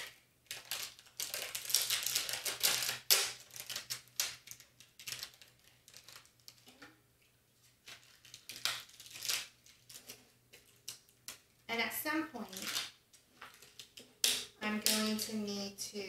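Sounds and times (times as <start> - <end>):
plastic sheets crinkling: 0.0 - 7.0, 7.6 - 11.7, 12.4 - 15.3.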